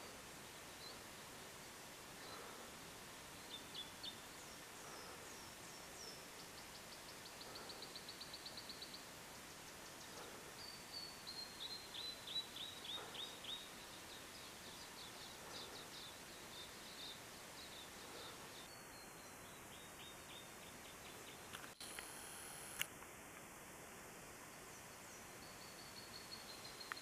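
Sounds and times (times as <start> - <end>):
faint background hiss: 0.0 - 27.0.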